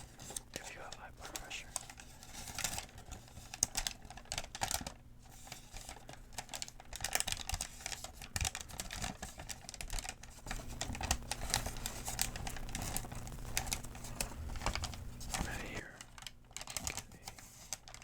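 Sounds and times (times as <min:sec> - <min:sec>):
paper crinkling: 0:00.0 - 0:18.0.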